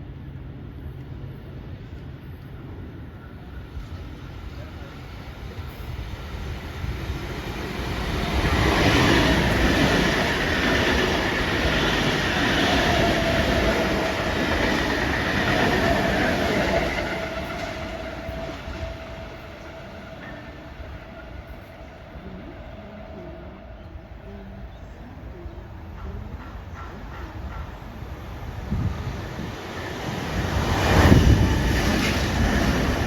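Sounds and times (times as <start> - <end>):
train passing at speed: 0.0 - 33.0.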